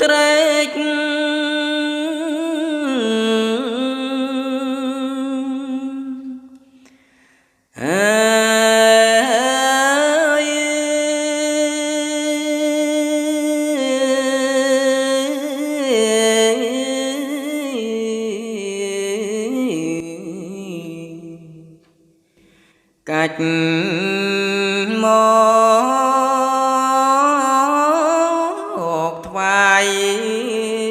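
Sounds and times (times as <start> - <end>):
man chanting: 0.0 - 6.5, 7.8 - 21.9, 23.0 - 30.9.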